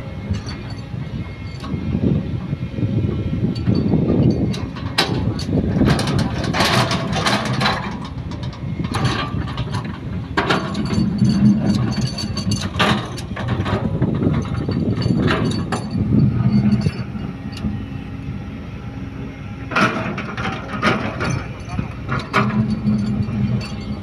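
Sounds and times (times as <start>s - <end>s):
excavator diesel engine running: 0.0s - 24.0s
metallic clanking and rattling: 0.3s - 1.8s, 3.5s - 17.8s, 19.7s - 24.0s.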